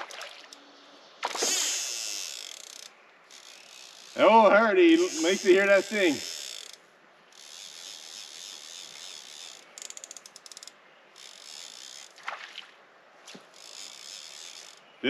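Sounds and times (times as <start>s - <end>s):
fishing reel clicking: 1.3s - 12.2s, 13.5s - 14.9s.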